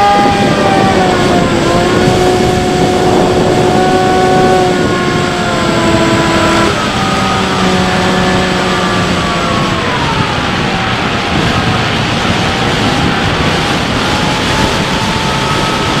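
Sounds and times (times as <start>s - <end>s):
electric motor and propeller whining: 0.0s - 16.0s
wind rush on microphone: 0.0s - 16.0s.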